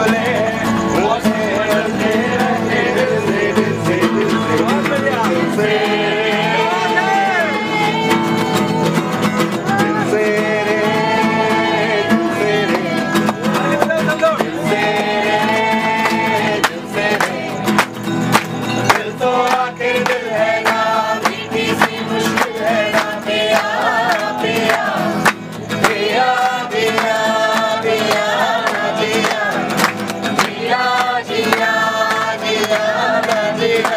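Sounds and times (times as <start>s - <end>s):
acoustic guitar strumming: 0.0s - 33.9s
people singing together: 0.0s - 33.9s.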